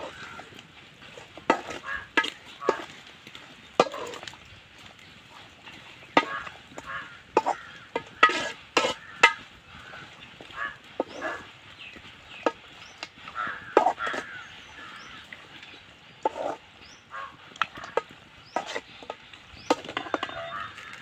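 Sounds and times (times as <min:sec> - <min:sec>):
metal spoon scraping a pan: 0:00.0 - 0:14.4, 0:16.2 - 0:16.8, 0:17.4 - 0:21.0.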